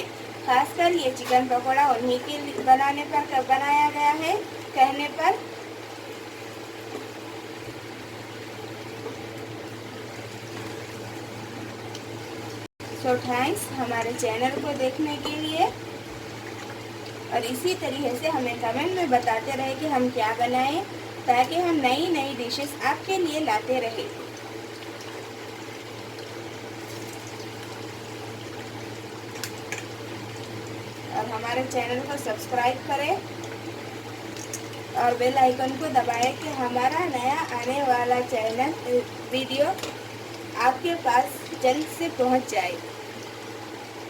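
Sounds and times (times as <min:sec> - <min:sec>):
food sizzling in hot oil: 0:00.0 - 0:44.0.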